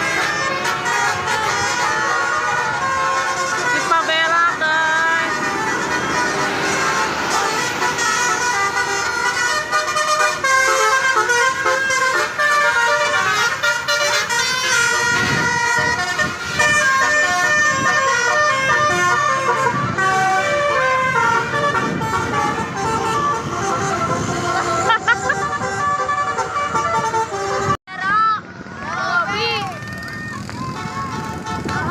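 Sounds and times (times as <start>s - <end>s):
multi-tone bus air horn: 0.0s - 27.8s, 30.6s - 31.9s.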